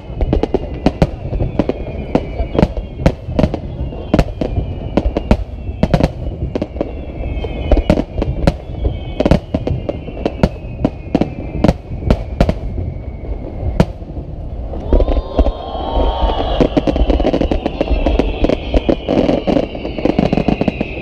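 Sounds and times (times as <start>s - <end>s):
fireworks bangs: 0.0s - 21.0s
fireworks whistling: 0.0s - 21.0s.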